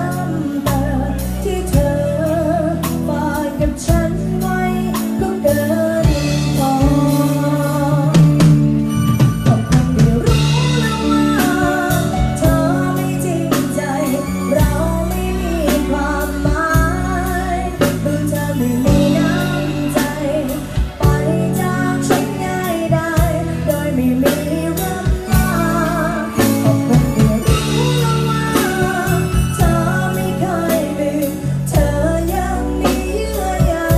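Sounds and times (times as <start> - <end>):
heavy bass notes: 0.0 - 33.9
person singing: 0.0 - 33.9
steady drum beat: 0.0 - 33.9.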